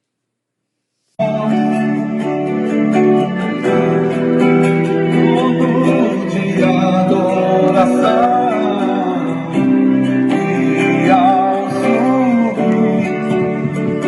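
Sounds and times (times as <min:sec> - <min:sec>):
acoustic guitar: 0:01.2 - 0:14.0
person singing: 0:01.2 - 0:14.0.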